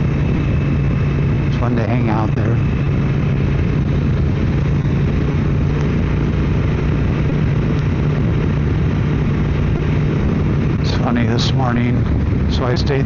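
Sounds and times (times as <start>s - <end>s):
motorcycle engine cruising: 0.0s - 13.0s
road and wind noise: 0.0s - 13.0s.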